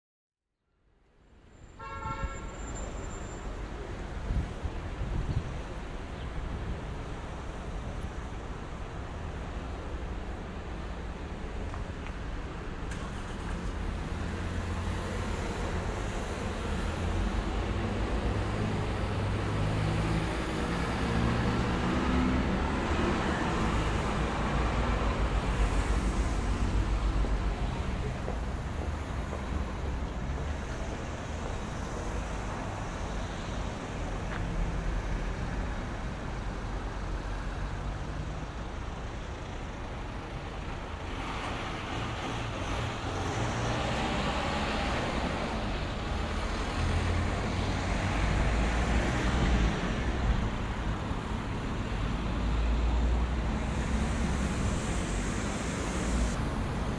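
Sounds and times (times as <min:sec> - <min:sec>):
vehicle engine rumble: 0:02.6 - 0:56.9.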